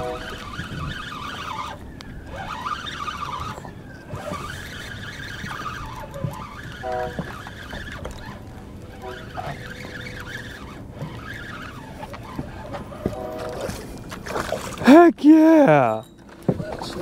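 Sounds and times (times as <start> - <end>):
fishing reel drag buzzing: 0.0 - 14.2.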